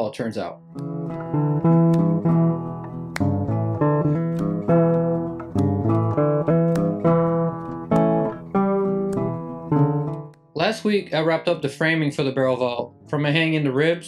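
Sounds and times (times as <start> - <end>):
acoustic guitar picking and strumming: 0.6 - 13.9.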